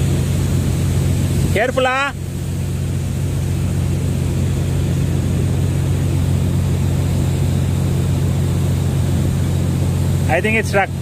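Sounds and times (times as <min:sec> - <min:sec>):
low machinery drone: 0:00.0 - 0:11.0.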